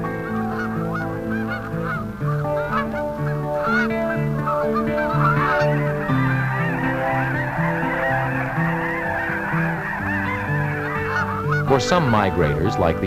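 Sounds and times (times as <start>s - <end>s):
geese honking: 0.0s - 13.0s
music score of long held notes: 0.0s - 13.0s.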